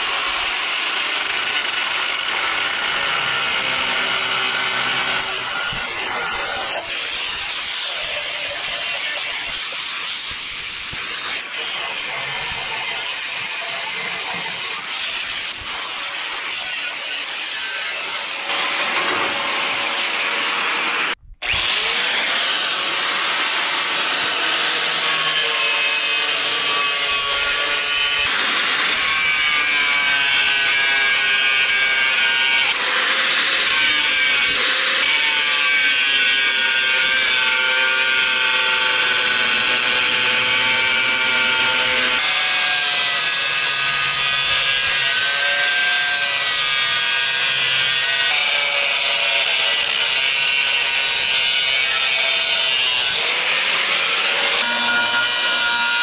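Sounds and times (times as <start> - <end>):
angle grinder grinding steel: 0.0 - 56.0.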